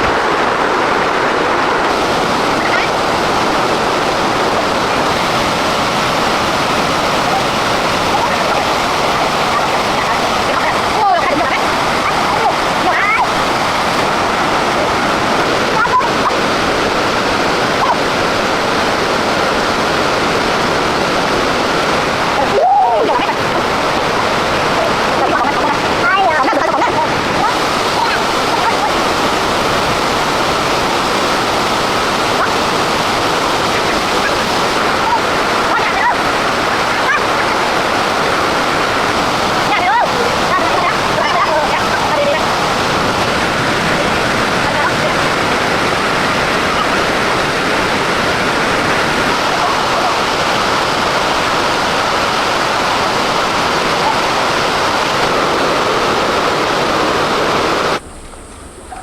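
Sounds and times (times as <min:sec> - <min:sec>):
rushing flowing water: 0:00.0 - 0:59.0.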